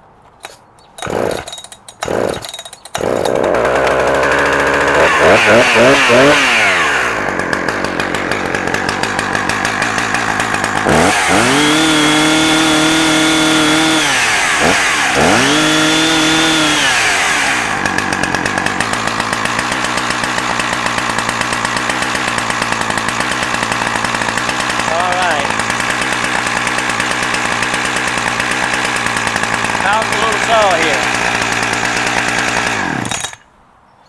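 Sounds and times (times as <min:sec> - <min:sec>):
chainsaw idling and revving: 0:00.4 - 0:33.5.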